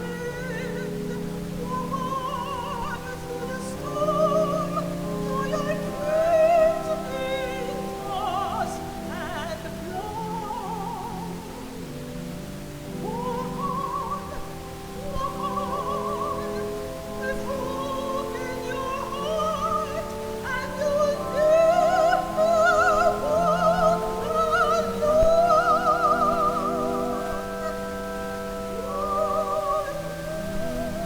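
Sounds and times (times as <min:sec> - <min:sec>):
operatic solo singing: 0:00.0 - 0:31.0.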